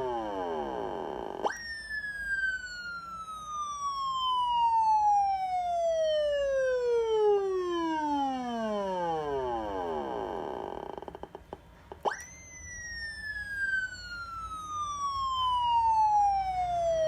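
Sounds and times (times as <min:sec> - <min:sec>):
electronic police siren wailing: 0:00.0 - 0:11.4, 0:12.0 - 0:17.0.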